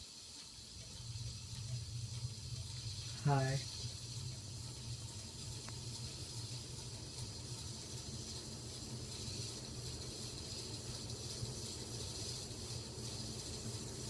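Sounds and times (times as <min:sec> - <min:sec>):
ceiling fan humming: 0:00.0 - 0:14.0.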